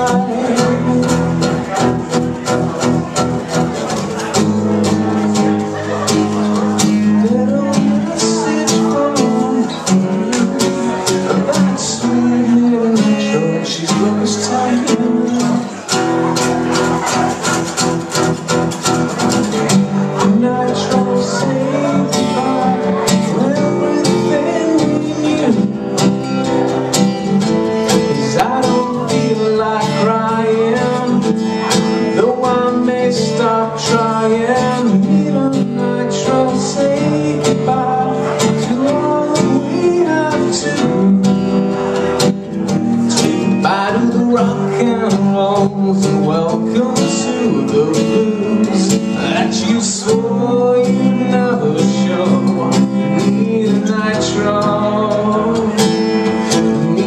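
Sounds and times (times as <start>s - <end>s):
acoustic guitars playing: 0.0s - 57.0s.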